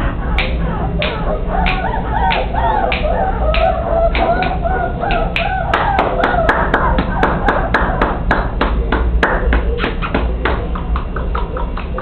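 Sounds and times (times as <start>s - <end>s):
rhythmic hand clapping: 0.0s - 12.0s.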